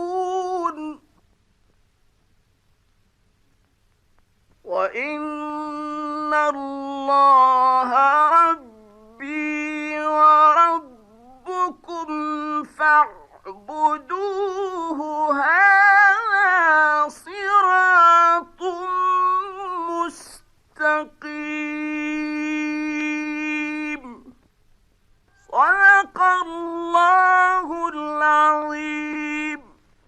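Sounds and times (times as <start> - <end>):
man reciting melodically: 0.0 - 1.1, 4.6 - 24.4, 25.3 - 29.9.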